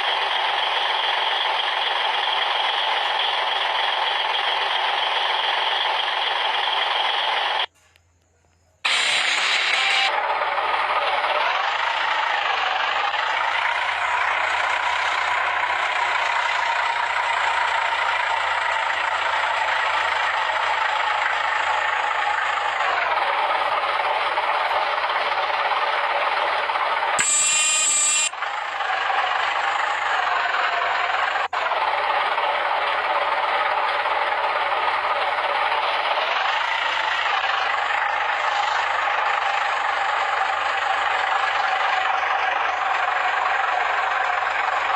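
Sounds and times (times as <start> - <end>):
heavy construction machinery running: 0.0 - 8.0, 8.8 - 44.9.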